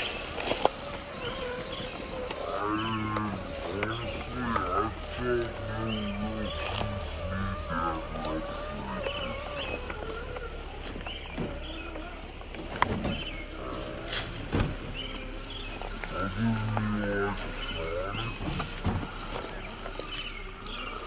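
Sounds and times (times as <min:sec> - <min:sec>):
slowed-down voices growling: 0:00.0 - 0:21.0.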